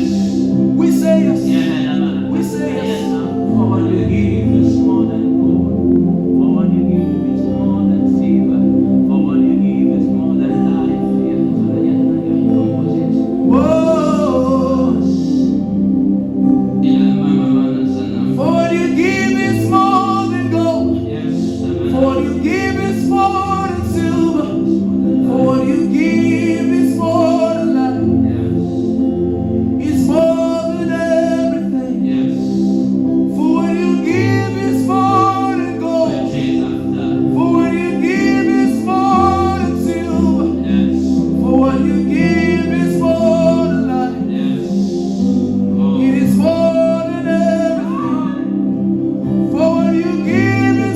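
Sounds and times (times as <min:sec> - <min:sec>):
gospel worship music: 0:00.0 - 0:50.9
voices singing: 0:00.0 - 0:50.9.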